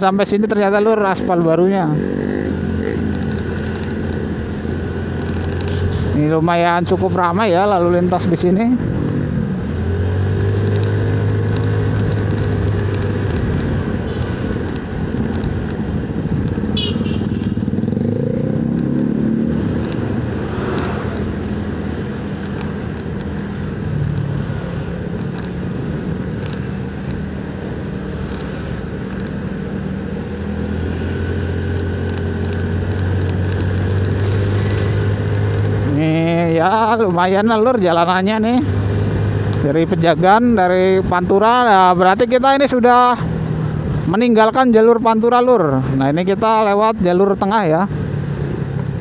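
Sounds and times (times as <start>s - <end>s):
passing motorbikes and cars: 0.0s - 49.0s
wind and road noise: 0.0s - 49.0s.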